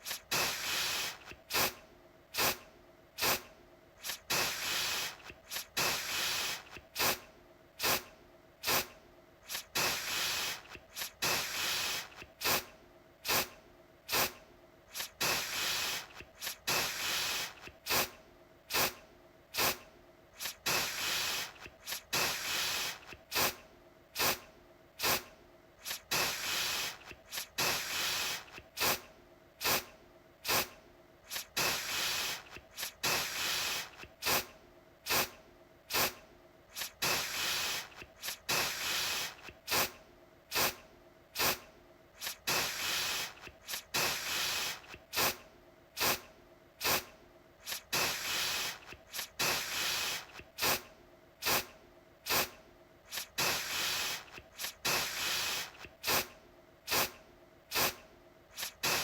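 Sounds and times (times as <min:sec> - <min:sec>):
aerosol can spraying: 0:00.0 - 0:01.8, 0:02.4 - 0:02.6, 0:03.2 - 0:07.2, 0:07.8 - 0:19.8, 0:20.4 - 0:23.6, 0:24.2 - 0:24.4, 0:25.0 - 0:34.5, 0:35.1 - 0:40.8, 0:41.4 - 0:41.6, 0:42.2 - 0:45.4, 0:46.0 - 0:56.3, 0:56.9 - 0:59.0.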